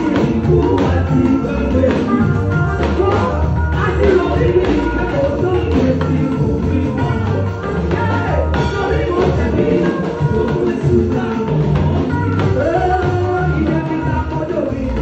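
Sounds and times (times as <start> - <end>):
backing singers: 0.0 - 15.0
bass line: 0.0 - 15.0
percussion: 0.0 - 15.0
woman singing into microphone: 0.0 - 15.0.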